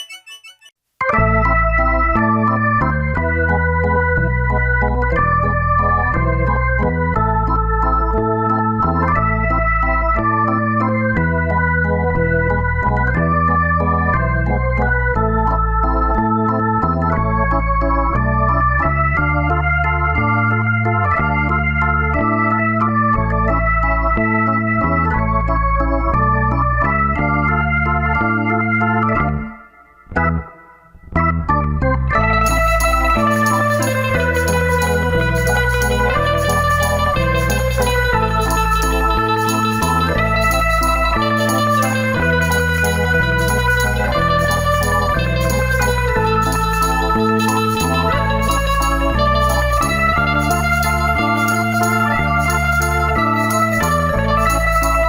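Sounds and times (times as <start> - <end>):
stepping bass line: 0.0 - 30.5, 31.2 - 55.0
electronic keyboard music: 0.0 - 55.0.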